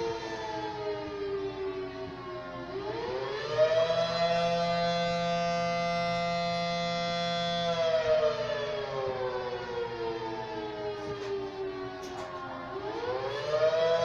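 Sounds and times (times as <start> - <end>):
two-tone warning siren: 0.0 - 14.0.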